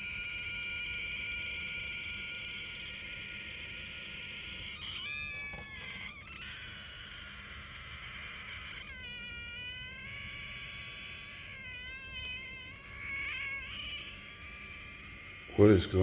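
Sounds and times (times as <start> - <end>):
high-pitched squealing whistle: 0.0 - 16.0.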